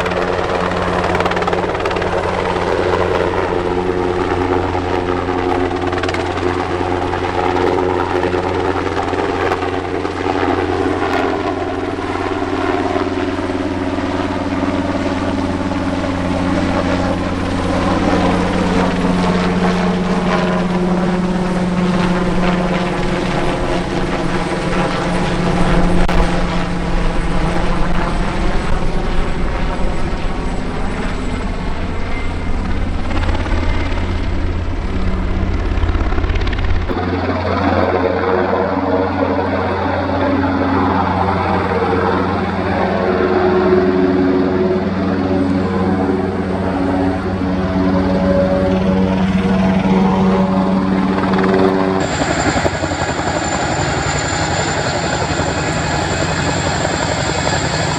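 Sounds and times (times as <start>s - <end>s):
helicopter rotor and engine: 0.0s - 57.9s.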